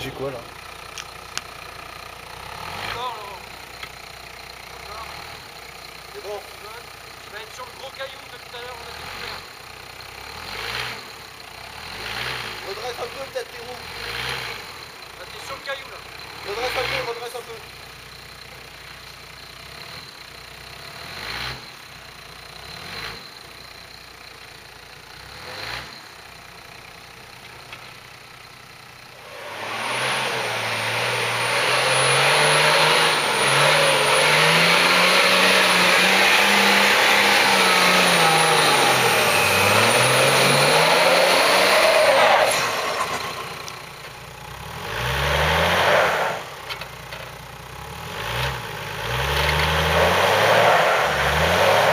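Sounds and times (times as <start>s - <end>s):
off-road vehicle engine revving: 0.0s - 51.9s.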